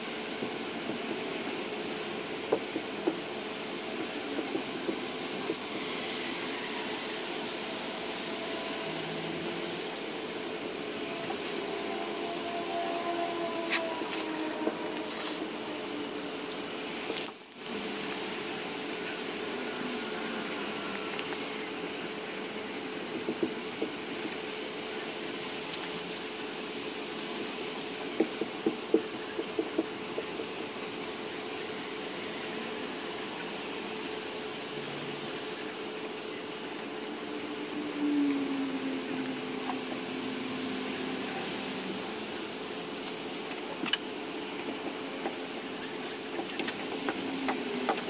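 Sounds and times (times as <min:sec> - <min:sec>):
roller squishing wet resin: 0:00.0 - 0:48.0
steady hum: 0:00.0 - 0:48.0.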